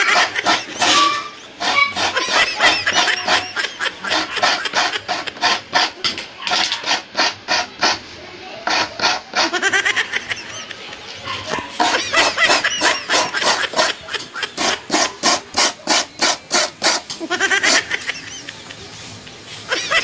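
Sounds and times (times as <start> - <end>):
coconut scraping on a grater: 0.0 - 10.0, 11.4 - 18.4.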